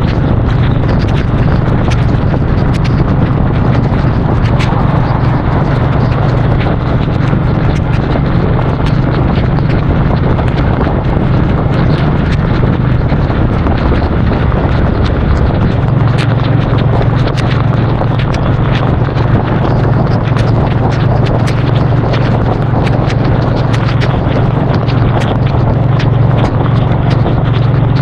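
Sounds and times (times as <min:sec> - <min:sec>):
motorcycle engine cruising: 0:00.0 - 0:28.0
raindrops ticking on microphone: 0:00.0 - 0:28.0
wind rush: 0:00.0 - 0:28.0.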